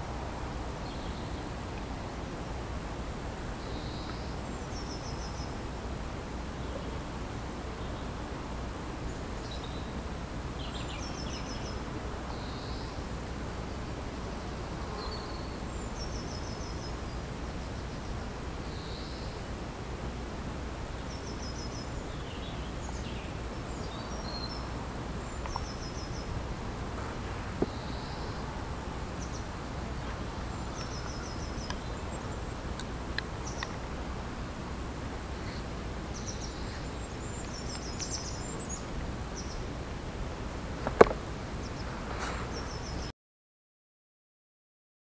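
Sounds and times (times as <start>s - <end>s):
background hiss: 0.0s - 43.1s
small birds chirping: 0.8s - 2.6s, 3.5s - 5.8s, 9.0s - 43.1s.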